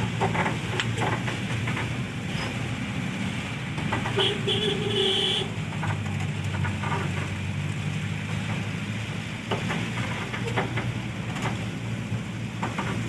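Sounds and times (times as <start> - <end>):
light knocks and rattles: 0.0 - 2.8, 3.7 - 4.4, 5.6 - 13.0
car engine drone: 0.0 - 13.0
tyres hissing on road: 0.0 - 13.0.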